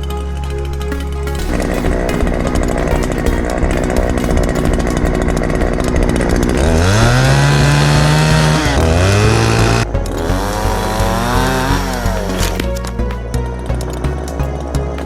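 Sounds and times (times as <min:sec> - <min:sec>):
chainsaw engine revving: 0:00.6 - 0:12.8.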